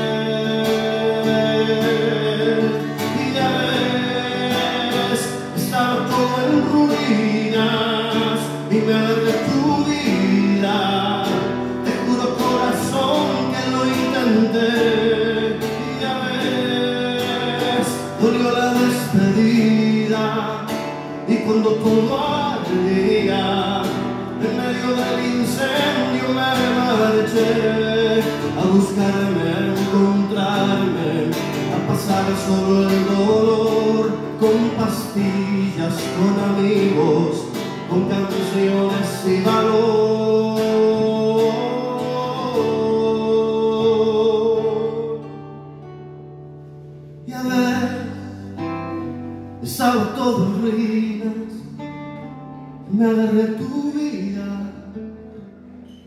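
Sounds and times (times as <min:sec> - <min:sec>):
man singing into a microphone: 0:00.0 - 0:45.4, 0:47.1 - 0:52.0, 0:52.8 - 0:56.0
acoustic guitar strumming: 0:00.0 - 0:56.0.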